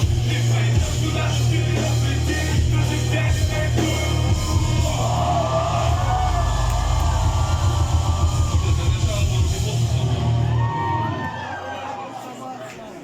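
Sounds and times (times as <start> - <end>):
rap music over sound system: 0.0 - 10.6.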